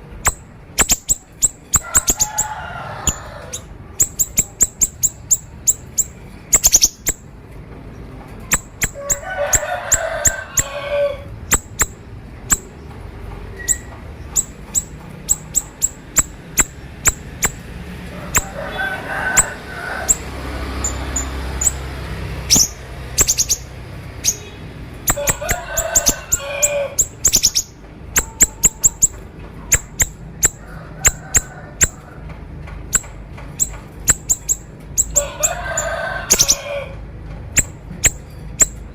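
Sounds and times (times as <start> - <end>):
songbird singing: 0.0 - 32.0, 32.8 - 38.9.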